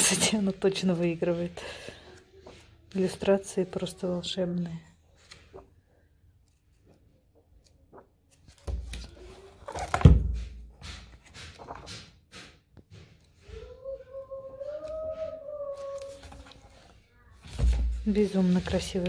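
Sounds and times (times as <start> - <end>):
book pages rustling: 2.0 - 19.0.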